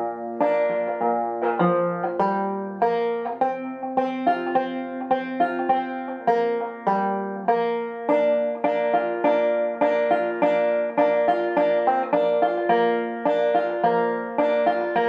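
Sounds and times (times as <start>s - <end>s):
banjo picked slowly: 0.0s - 15.0s.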